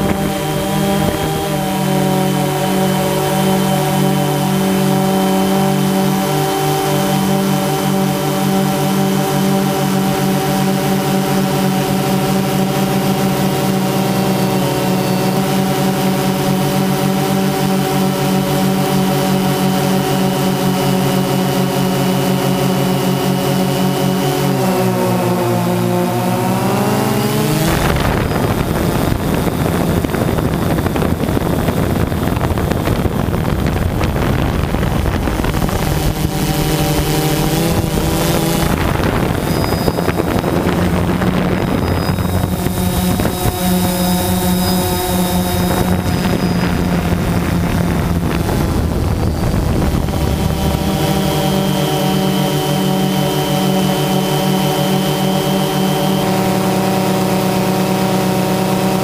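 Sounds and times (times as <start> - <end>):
drone propellers buzzing: 0.0 - 59.0
wind on microphone: 0.0 - 59.0.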